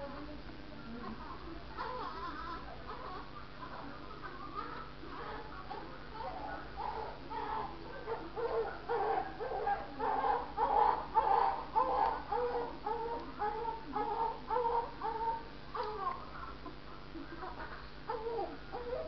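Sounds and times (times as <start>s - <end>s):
newborn baby crying: 1.8s - 16.6s, 17.5s - 19.0s.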